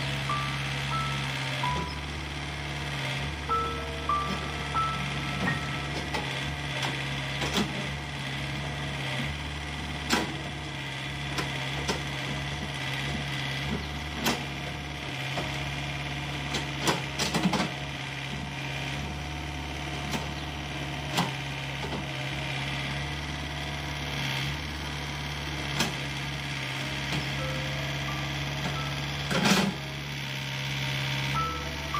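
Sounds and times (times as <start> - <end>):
heavy machine engine running: 0.0 - 31.9.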